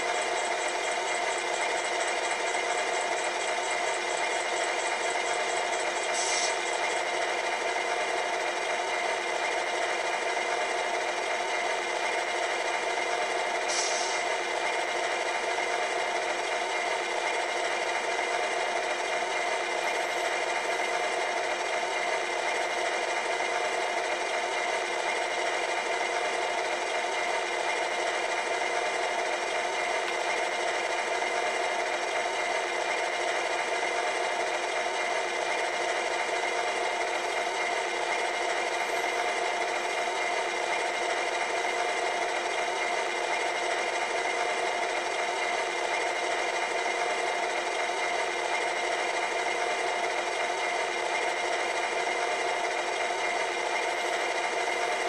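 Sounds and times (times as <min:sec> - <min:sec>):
thin diesel engine idle from speaker: 0:00.0 - 0:55.0.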